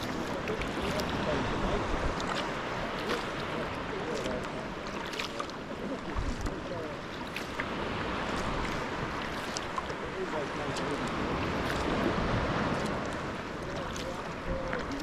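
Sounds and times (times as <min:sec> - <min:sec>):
paddle dipping and dripping: 0:00.0 - 0:15.0
sea water washing: 0:00.0 - 0:15.0
small water splashes: 0:00.0 - 0:15.0.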